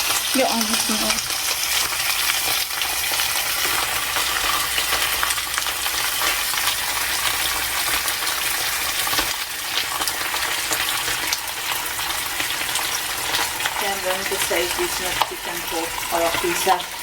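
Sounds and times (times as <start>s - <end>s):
onion and garlic sizzling in a pan: 0.0s - 17.0s.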